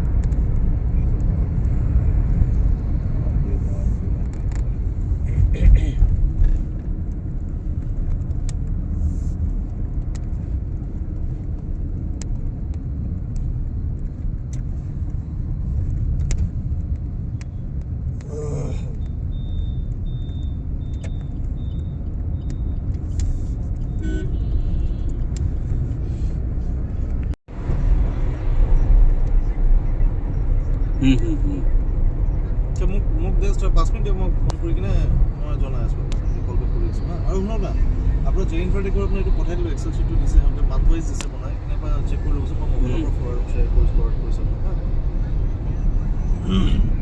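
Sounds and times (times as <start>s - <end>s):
vehicle rumble: 0.0s - 47.0s.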